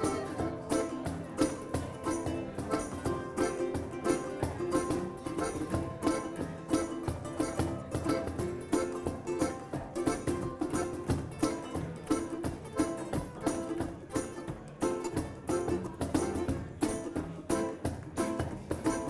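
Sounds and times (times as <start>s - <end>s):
cajon beat: 0.0s - 19.0s
strummed acoustic guitars: 0.0s - 19.0s
ukulele: 0.0s - 19.0s.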